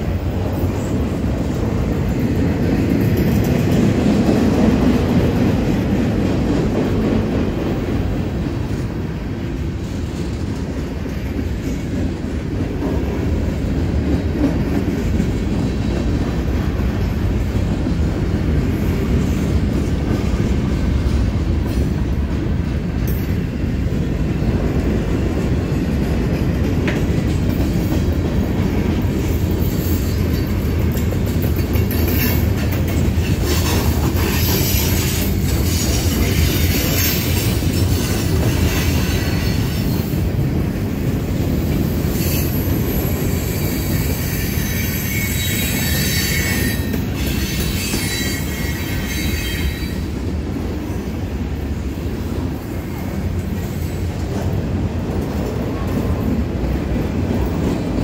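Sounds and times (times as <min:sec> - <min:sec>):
clickety-clack over rail joints: 0:00.0 - 0:58.0
freight train rolling past: 0:00.0 - 0:58.0.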